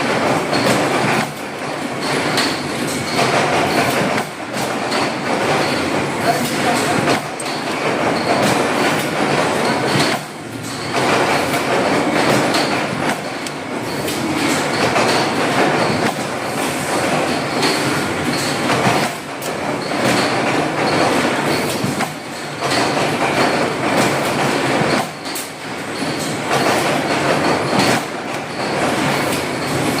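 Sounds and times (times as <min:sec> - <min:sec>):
sharp clicks and knocks: 0:00.0 - 0:30.0.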